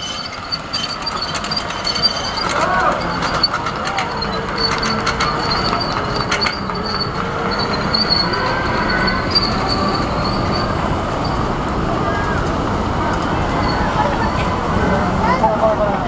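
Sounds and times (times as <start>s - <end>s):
high wheel squeal: 0.0s - 15.5s
miniature train rolling rumble: 0.0s - 16.0s.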